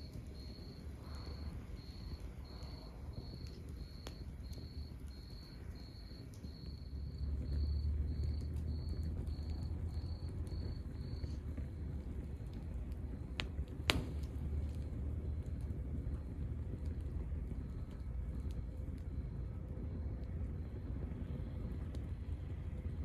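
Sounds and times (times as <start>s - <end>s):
sharp pops of fire: 0.0s - 23.0s
wood fire crackling: 0.0s - 23.0s.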